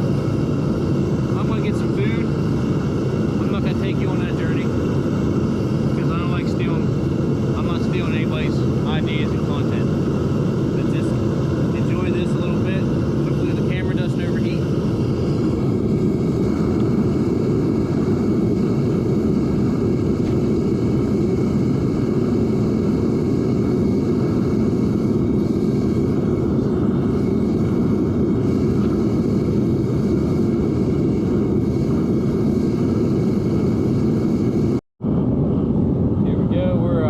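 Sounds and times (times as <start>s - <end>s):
propane burner rushing: 0.0s - 37.0s.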